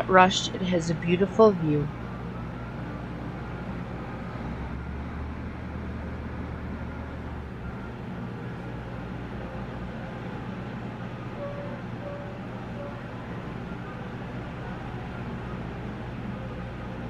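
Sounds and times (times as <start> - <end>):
ferry engine hum: 0.0 - 17.0.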